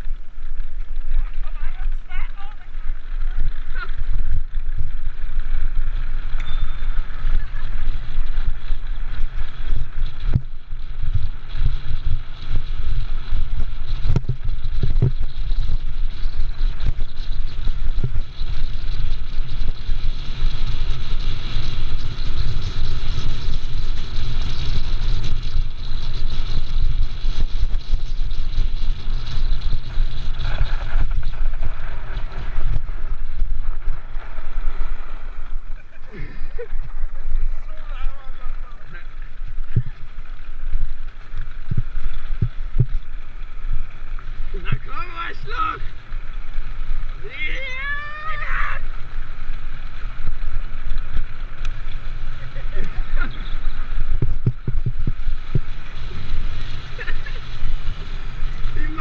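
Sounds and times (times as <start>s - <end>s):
wheels rolling over gravel: 0.0s - 59.0s
wind buffeting: 0.0s - 59.0s.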